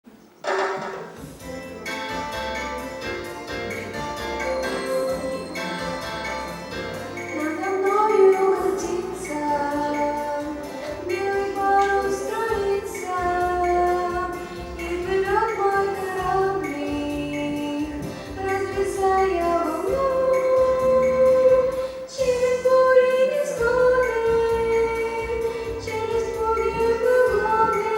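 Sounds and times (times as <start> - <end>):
instrumental accompaniment with bass: 0.4 - 27.9
young voices singing: 3.8 - 27.9.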